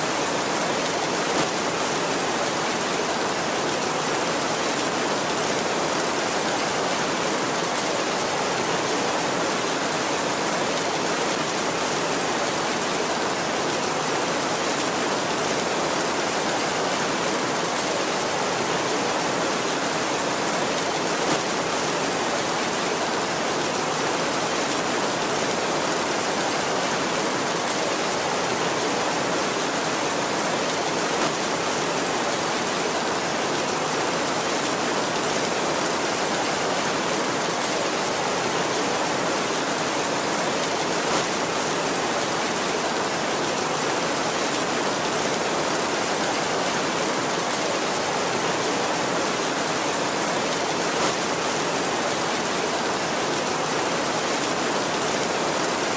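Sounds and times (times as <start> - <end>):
heavy rain on a tin roof: 0.0 - 55.9.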